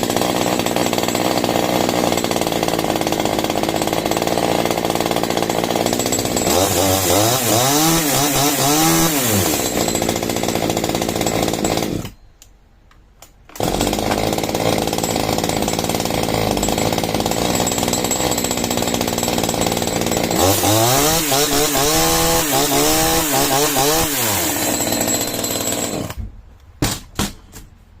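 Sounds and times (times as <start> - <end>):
chainsaw revving: 0.0 - 12.2, 13.6 - 26.2.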